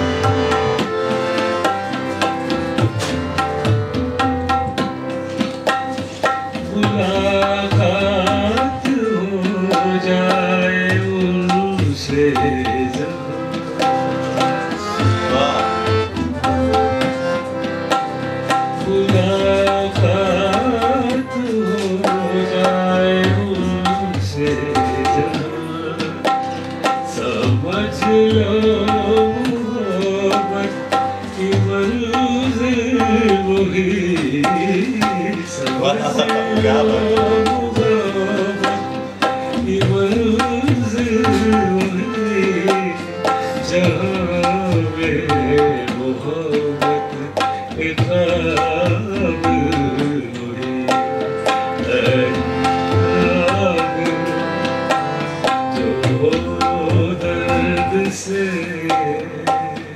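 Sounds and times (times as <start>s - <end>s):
harmonium: 0.0s - 59.9s
tabla rhythm: 0.0s - 59.9s
man singing: 5.3s - 59.9s.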